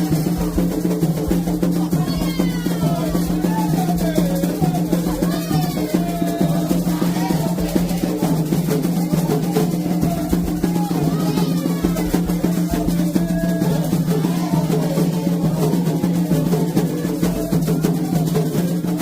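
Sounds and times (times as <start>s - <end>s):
ritual drumming: 0.0s - 19.0s.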